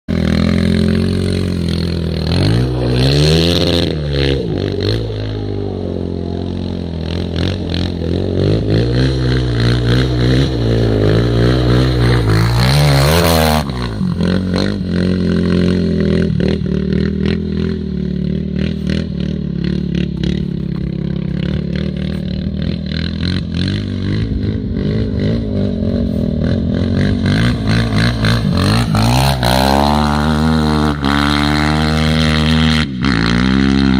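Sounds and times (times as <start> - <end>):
quad engine revving: 0.1 - 33.9.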